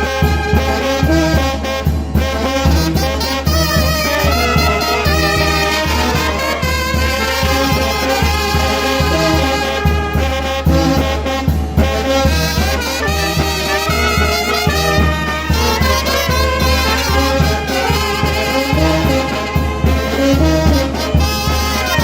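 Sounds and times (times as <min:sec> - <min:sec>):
wind band playing: 0:00.0 - 0:22.0.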